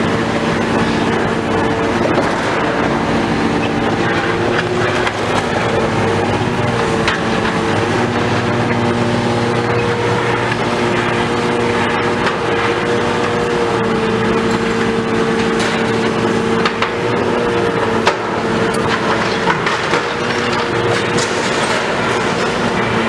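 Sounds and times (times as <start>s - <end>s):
diesel engine running: 0.0s - 23.0s
debris crunching and cracking: 1.6s - 13.5s, 15.3s - 23.0s.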